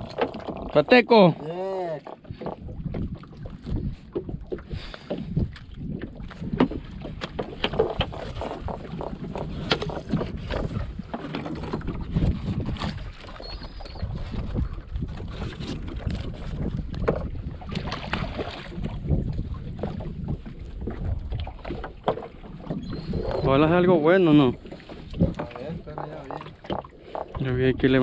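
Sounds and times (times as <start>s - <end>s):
water slapping hull: 0.0s - 28.0s
wind on microphone: 2.1s - 28.0s.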